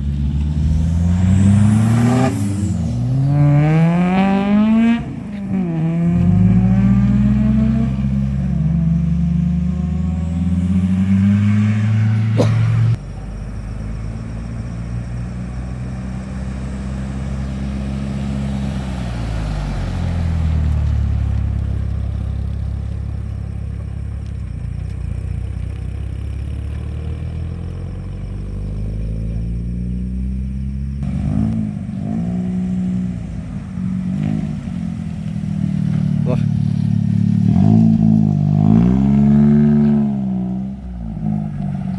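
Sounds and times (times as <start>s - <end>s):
engine revving: 0.0s - 24.1s, 25.0s - 41.9s
car engine running: 0.0s - 41.9s.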